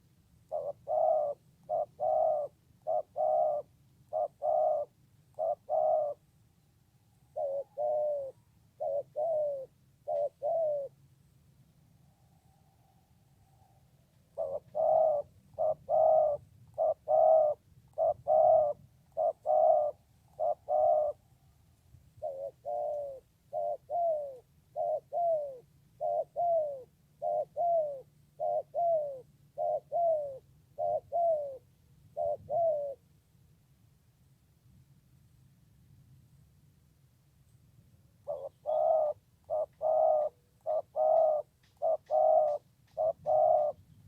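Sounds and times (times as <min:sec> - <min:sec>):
dove cooing: 0:00.0 - 0:06.4, 0:07.2 - 0:11.1, 0:12.5 - 0:33.1, 0:38.2 - 0:44.0.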